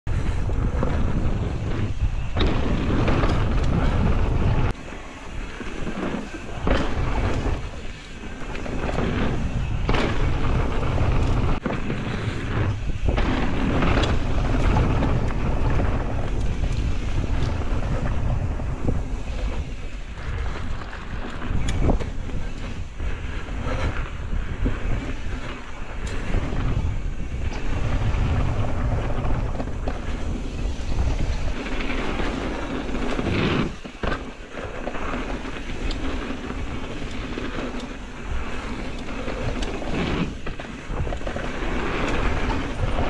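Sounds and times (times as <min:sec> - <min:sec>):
bike tyres rolling on dirt: 0:00.0 - 0:43.0
wind rushing over microphone: 0:00.0 - 0:43.0
bike knocks and rattles: 0:00.1 - 0:05.2, 0:05.8 - 0:43.0.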